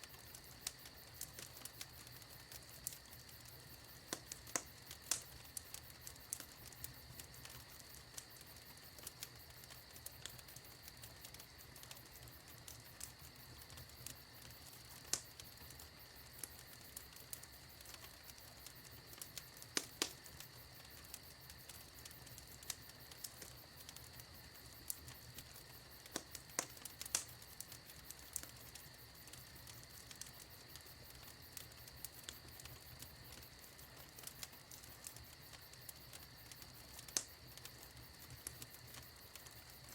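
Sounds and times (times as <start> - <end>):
fire popping and snapping: 0.0 - 39.9
wood fire crackling: 0.0 - 39.9.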